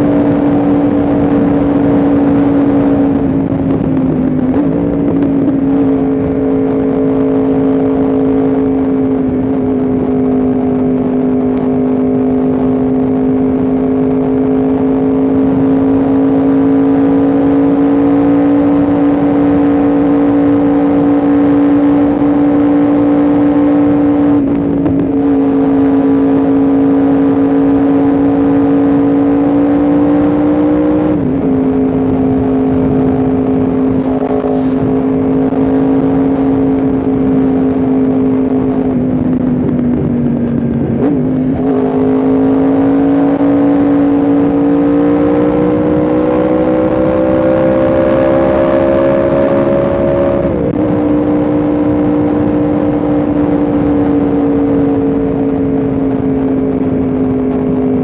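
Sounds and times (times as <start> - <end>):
motorcycle engine at high revs: 0.0 - 58.0
wind and road noise: 0.0 - 58.0.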